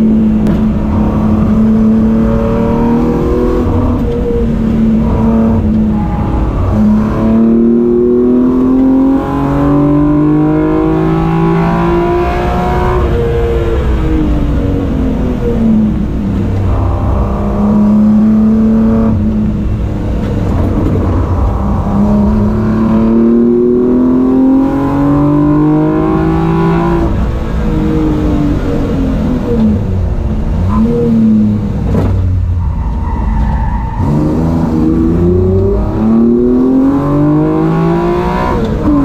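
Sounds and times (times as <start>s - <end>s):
car engine revving through gears: 0.0s - 39.0s.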